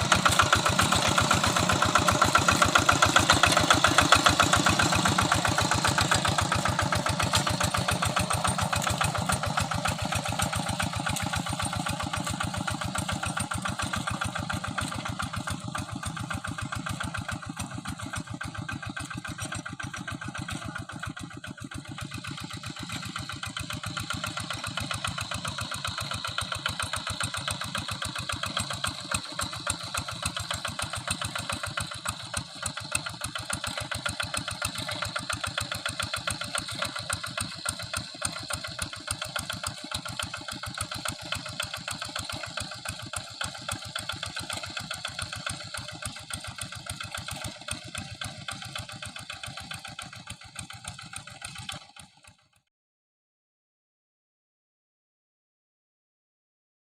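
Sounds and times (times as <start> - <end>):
small engine running: 0.0 - 52.7.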